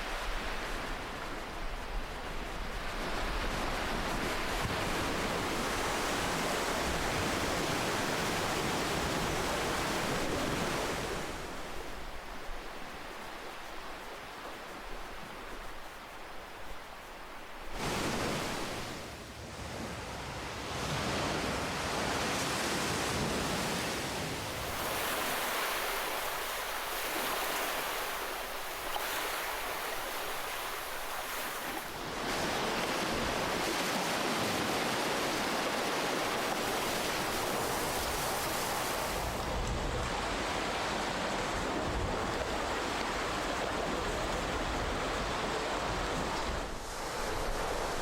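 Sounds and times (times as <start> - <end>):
ocean waves washing onto shore: 0.0 - 48.0.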